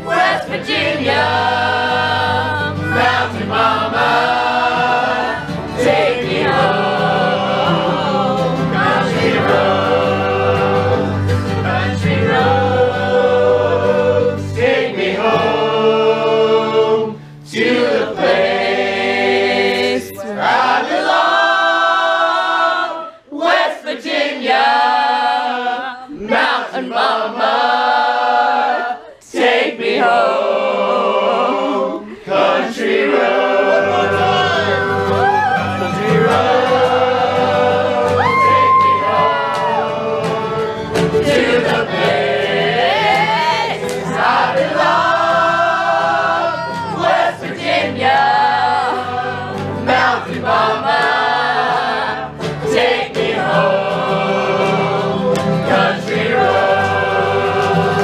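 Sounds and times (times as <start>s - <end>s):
acoustic guitars and banjo: 0.0s - 20.9s, 31.9s - 58.0s
group of voices singing: 0.0s - 58.0s.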